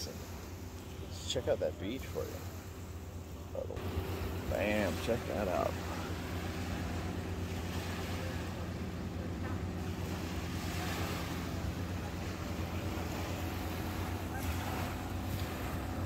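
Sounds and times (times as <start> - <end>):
small waves hissing: 0.0 - 16.0.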